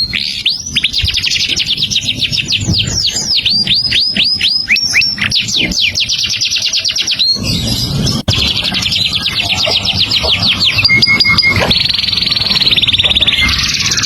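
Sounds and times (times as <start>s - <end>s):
songbird singing: 0.0s - 14.0s
harsh raspy bird call: 0.1s - 14.0s.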